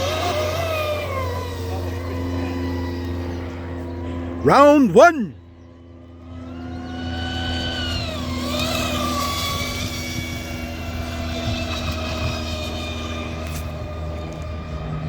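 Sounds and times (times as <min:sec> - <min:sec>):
electric boat motors whining: 0:00.0 - 0:15.0.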